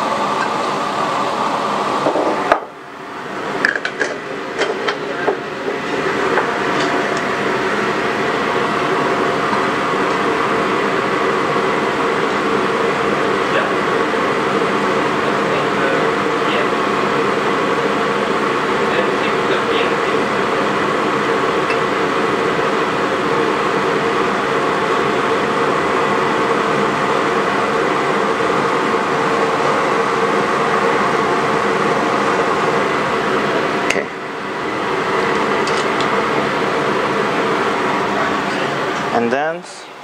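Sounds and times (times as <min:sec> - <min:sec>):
fume hood exhaust rushing: 0:00.0 - 0:40.0.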